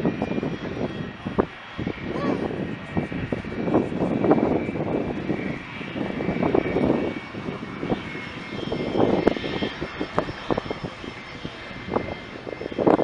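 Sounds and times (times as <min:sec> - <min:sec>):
aircraft engine whine: 0:00.0 - 0:13.0
wind buffeting microphone: 0:00.0 - 0:13.0.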